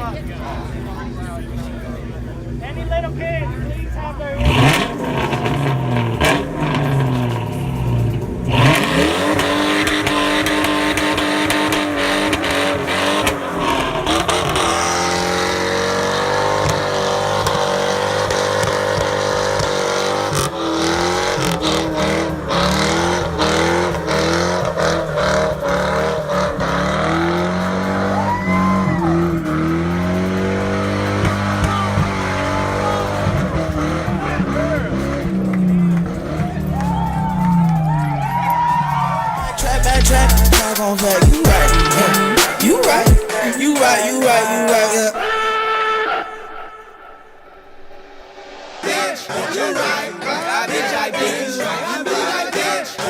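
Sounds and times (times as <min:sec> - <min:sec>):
car engine revving: 0:00.0 - 0:49.3.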